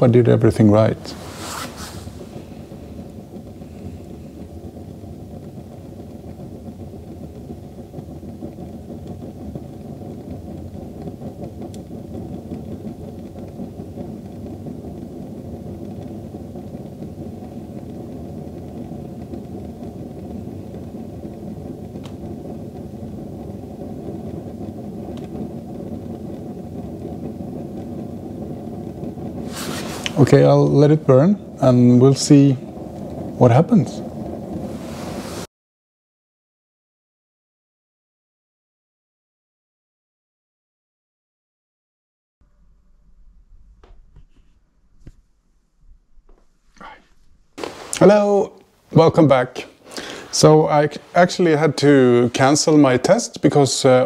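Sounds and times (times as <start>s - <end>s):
heater burner rumbling: 0.0s - 35.5s, 42.4s - 54.0s.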